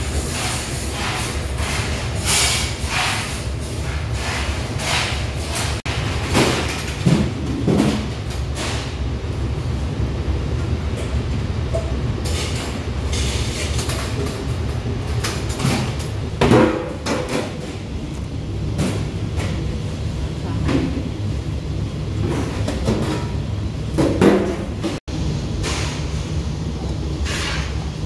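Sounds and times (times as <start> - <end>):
kitchen machinery rumble: 0.0 - 28.0.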